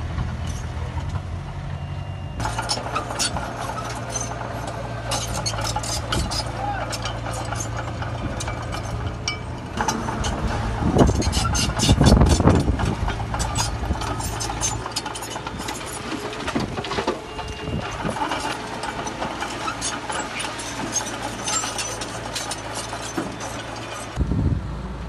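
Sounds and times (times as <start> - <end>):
diesel machinery engine running: 0.0 - 25.0
metallic clanks and rattles: 0.2 - 1.3, 2.4 - 24.2.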